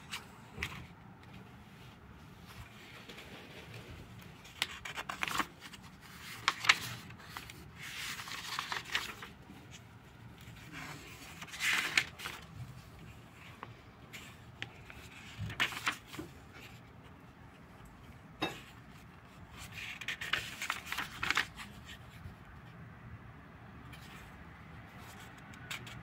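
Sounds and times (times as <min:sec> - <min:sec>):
paper rustling and flapping: 0:00.0 - 0:17.2, 0:18.6 - 0:22.4, 0:23.9 - 0:26.0
notebook pages turning: 0:00.0 - 0:17.6, 0:18.6 - 0:22.3, 0:23.9 - 0:26.0.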